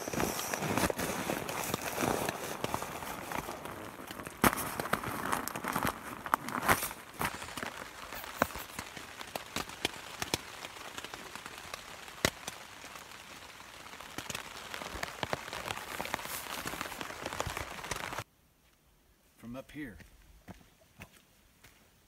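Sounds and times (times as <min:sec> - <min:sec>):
rain hissing on tent: 0:00.0 - 0:18.3
raindrops ticking on fabric: 0:00.0 - 0:18.3.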